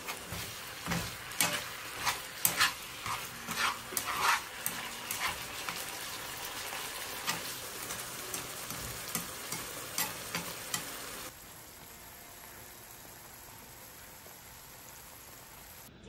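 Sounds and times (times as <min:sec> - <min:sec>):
meat sizzling in a frying pan: 0:00.0 - 0:15.9.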